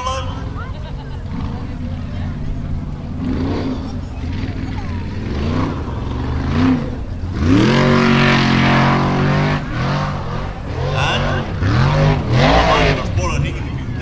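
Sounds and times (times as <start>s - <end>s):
buggy engine revving: 0.0s - 14.0s.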